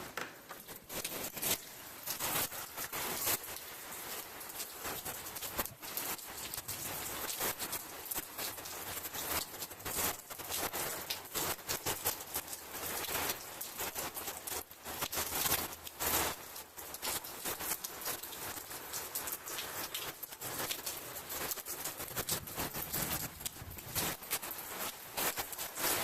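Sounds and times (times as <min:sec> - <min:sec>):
rain pattering: 0:00.0 - 0:26.0
sharp crackles of raindrops: 0:00.0 - 0:26.0.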